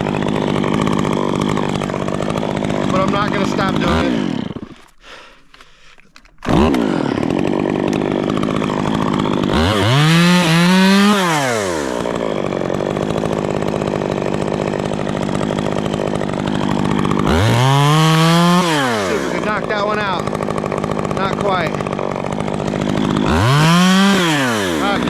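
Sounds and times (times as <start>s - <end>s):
chainsaw idling and revving: 0.0s - 25.0s.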